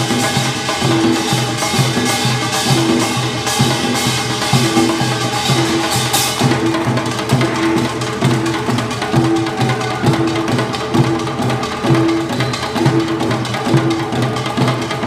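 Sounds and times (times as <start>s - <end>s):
traditional drum ensemble: 0.0s - 15.0s.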